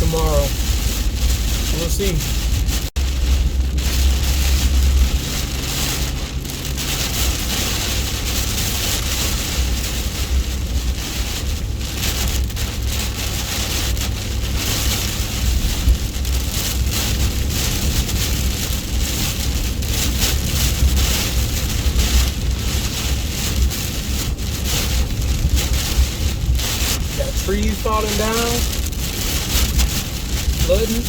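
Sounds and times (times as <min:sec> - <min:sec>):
heavy rain on truck roof: 0:00.0 - 0:31.0
truck low rumble: 0:00.0 - 0:31.0.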